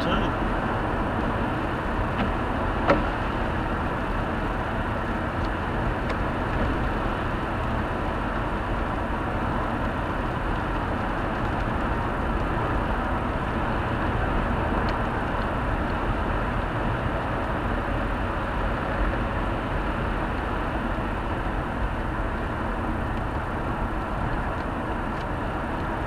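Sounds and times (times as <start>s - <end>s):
car engine from inside cabin: 0.0s - 26.0s
tyres on wet road: 0.0s - 26.0s.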